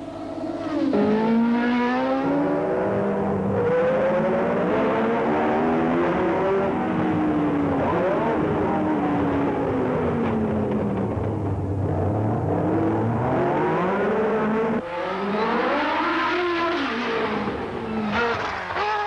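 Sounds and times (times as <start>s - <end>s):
racing car engine revving: 0.1s - 11.1s, 11.8s - 19.0s.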